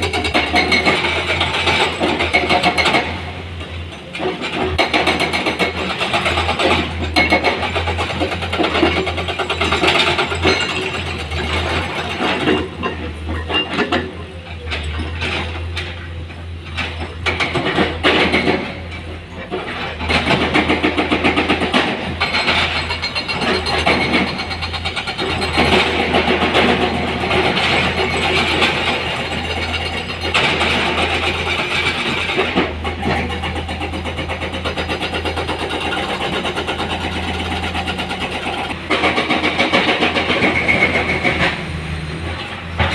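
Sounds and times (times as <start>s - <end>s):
excavator diesel engine: 0.0s - 42.9s.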